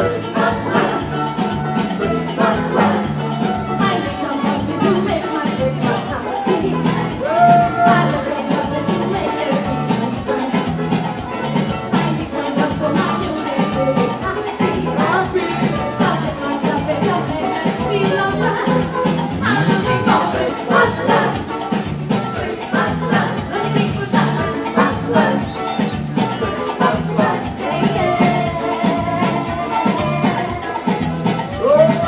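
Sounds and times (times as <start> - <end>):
band playing folk music: 0.0 - 32.0
maracas shaking: 0.0 - 32.0.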